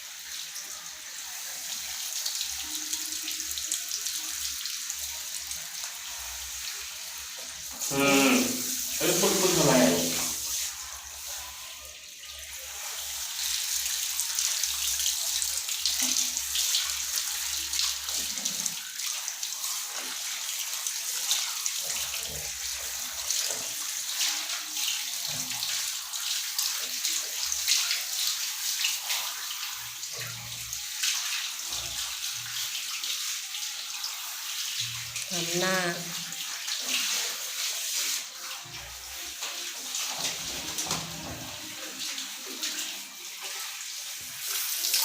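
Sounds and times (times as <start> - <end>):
running water splashing: 0.0 - 45.0.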